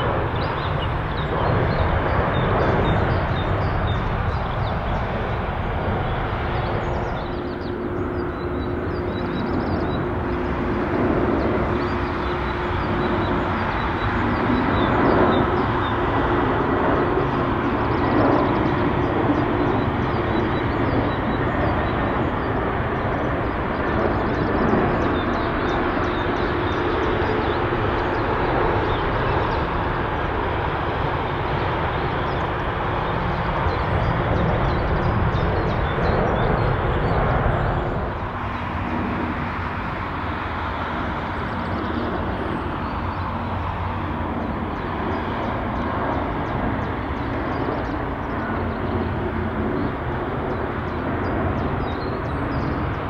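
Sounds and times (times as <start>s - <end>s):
jet airliner landing rumble: 0.0s - 53.0s
jet on approach rumble: 0.0s - 53.0s.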